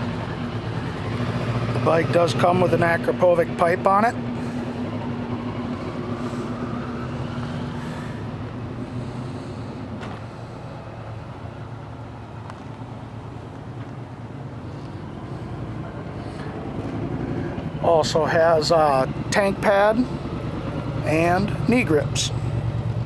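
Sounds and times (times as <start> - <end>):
low mechanical drone: 0.0 - 23.0
outdoor background noise: 0.0 - 23.0.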